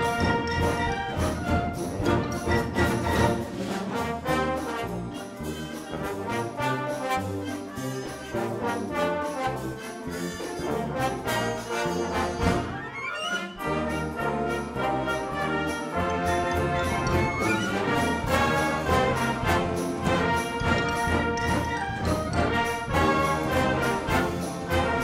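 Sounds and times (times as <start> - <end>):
held brass chords: 0.0 - 25.0
wind orchestra playing: 0.0 - 25.0.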